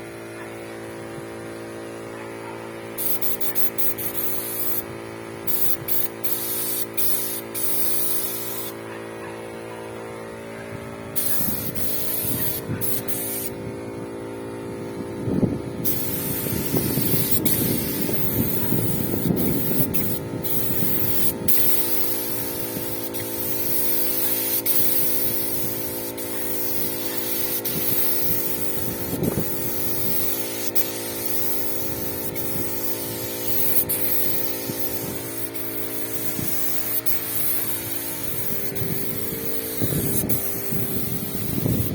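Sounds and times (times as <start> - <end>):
motor humming: 0.0 - 41.9
paint spray gun hissing: 2.6 - 8.9, 10.7 - 41.9.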